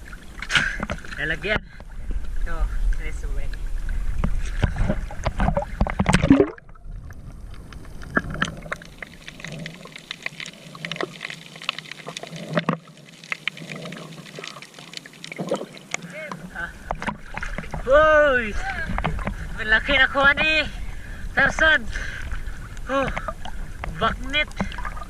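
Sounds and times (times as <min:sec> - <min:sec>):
sea water splashing and trickling: 0:00.0 - 0:25.0.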